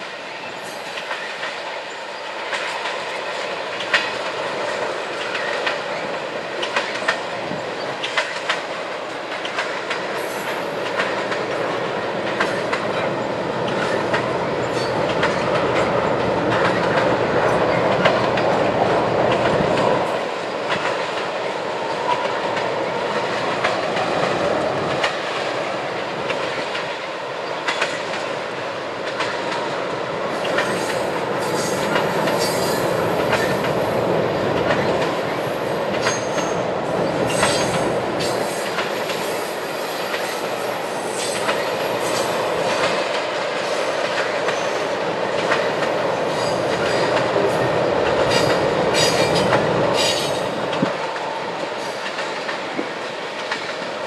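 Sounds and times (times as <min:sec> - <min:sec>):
train wheels clicking over rail joints: 0:02.4 - 0:54.0.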